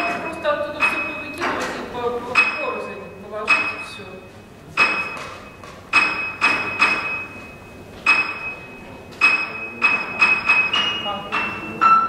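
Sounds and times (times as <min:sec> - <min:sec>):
hammer striking metal: 0:00.0 - 0:02.9, 0:04.8 - 0:12.0.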